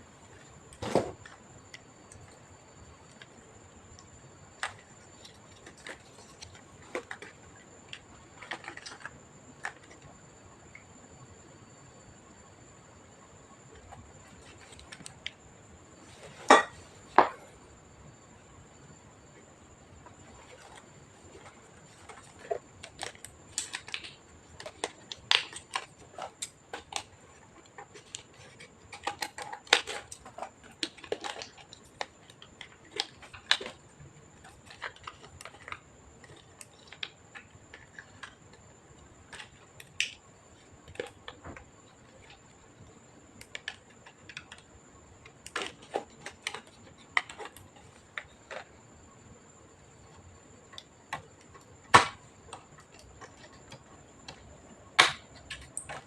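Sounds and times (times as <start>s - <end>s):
faint high whine: 0.0s - 56.0s.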